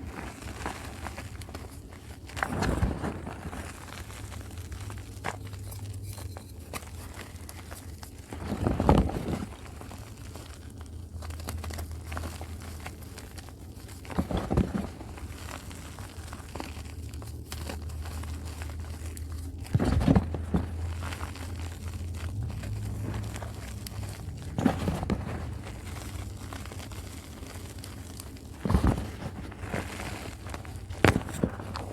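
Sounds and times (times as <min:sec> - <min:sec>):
chalk crumbling by hand: 0:00.0 - 0:31.9
chalk crunching: 0:00.0 - 0:31.9
steady low hum: 0:00.0 - 0:31.9.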